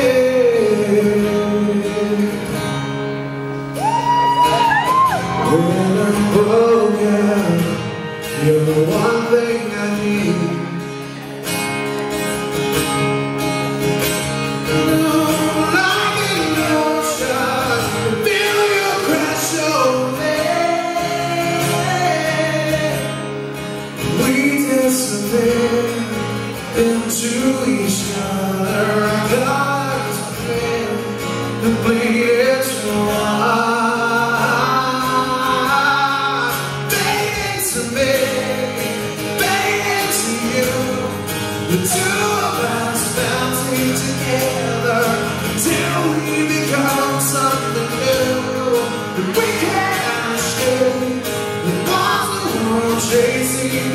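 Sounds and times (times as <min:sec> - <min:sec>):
man singing: 0:00.0 - 0:02.9, 0:03.8 - 0:11.0, 0:14.5 - 0:53.9
strummed acoustic guitar: 0:00.0 - 0:53.9.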